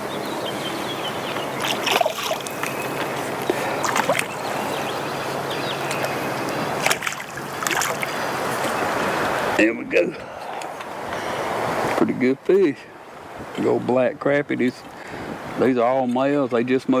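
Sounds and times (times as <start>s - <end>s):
water lapping against boat hull: 0.0s - 13.8s.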